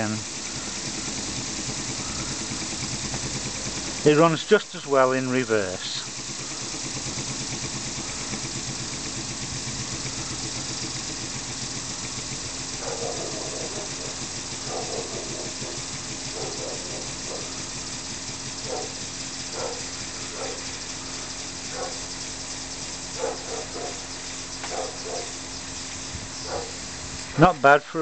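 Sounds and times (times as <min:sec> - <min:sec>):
model steam engine running: 0:00.0 - 0:28.0.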